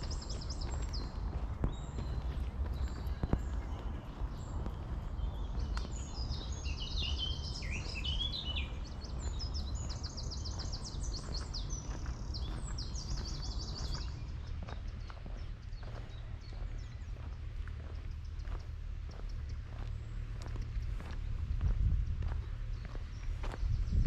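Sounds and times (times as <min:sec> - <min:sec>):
songbird singing trills: 0:00.0 - 0:21.4
low rumble: 0:00.0 - 0:24.0.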